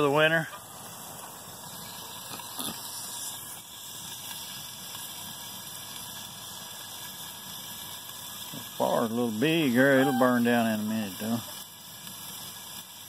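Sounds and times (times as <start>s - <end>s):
wood fire hissing: 0.0s - 13.0s.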